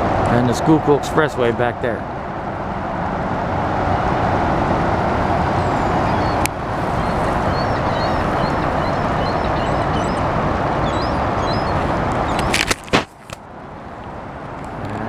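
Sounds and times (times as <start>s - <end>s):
traffic drone: 0.0s - 15.0s.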